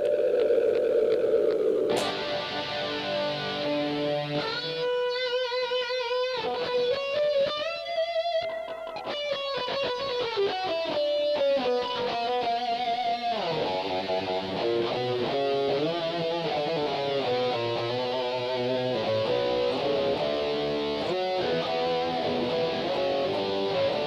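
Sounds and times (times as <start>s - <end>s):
electric guitar playing: 0.0s - 24.0s.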